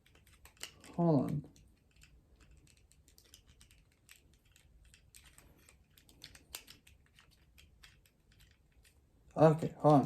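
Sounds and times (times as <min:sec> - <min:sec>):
plastic toy joints clicking: 0:00.0 - 0:10.0.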